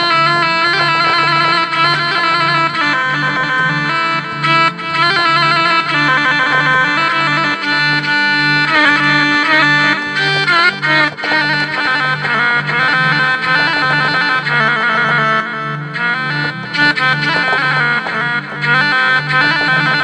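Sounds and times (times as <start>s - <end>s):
bowed-sounding keyboard melody: 0.0s - 20.0s.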